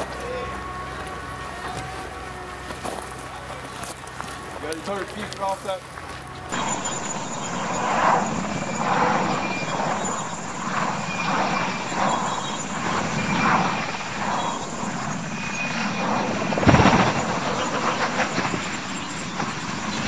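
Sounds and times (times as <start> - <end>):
helicopter rotor beat: 0.0 - 20.0.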